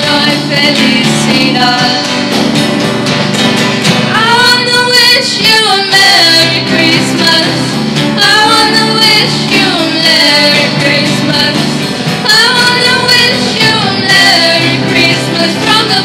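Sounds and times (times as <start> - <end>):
girls singing pop song: 0.0 - 2.8, 4.0 - 16.0
live band playing: 0.0 - 16.0.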